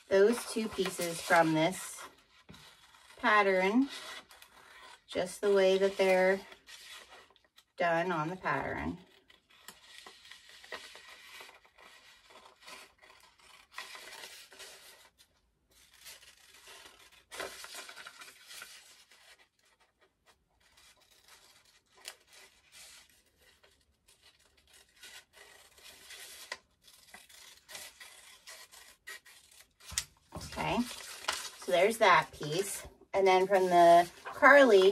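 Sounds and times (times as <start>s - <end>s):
paper rustling: 0.0s - 7.7s, 8.5s - 34.9s.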